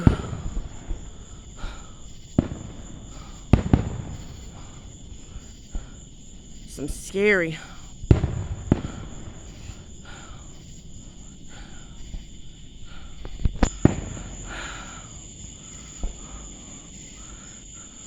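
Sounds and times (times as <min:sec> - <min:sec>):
fireworks booming: 0:00.0 - 0:18.0
fireworks cracking: 0:00.0 - 0:18.0
insects chirping: 0:00.0 - 0:18.0.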